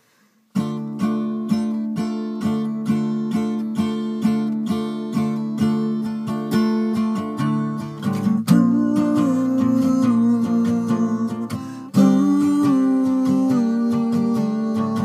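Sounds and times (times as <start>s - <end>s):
acoustic guitar strumming: 0.5s - 15.0s.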